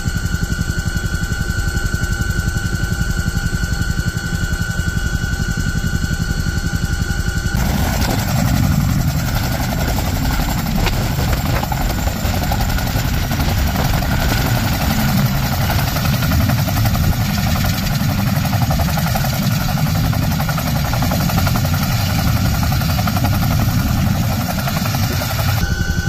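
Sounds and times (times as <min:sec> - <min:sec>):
helicopter rotors pulsing drone: 0:00.0 - 0:26.0.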